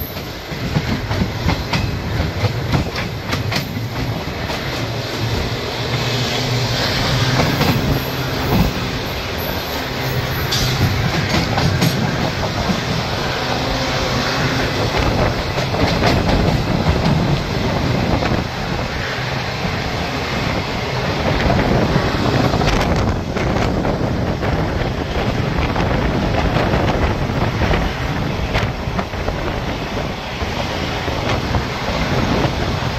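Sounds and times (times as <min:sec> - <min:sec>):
train wheels rushing on rail: 0:00.0 - 0:32.9
wind buffeting microphone: 0:00.3 - 0:32.9.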